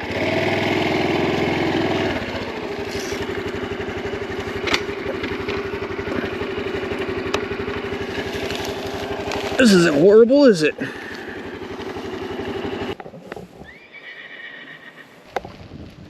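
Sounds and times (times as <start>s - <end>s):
motorcycle engine idling: 0.0s - 13.2s.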